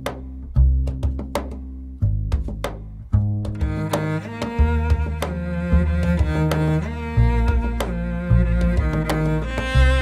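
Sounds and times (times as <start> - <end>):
deep sustained music notes: 0.0 - 10.0.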